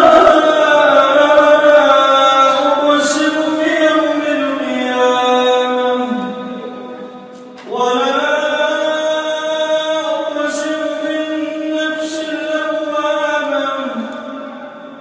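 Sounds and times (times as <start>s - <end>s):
person reciting melodically: 0.0s - 15.0s.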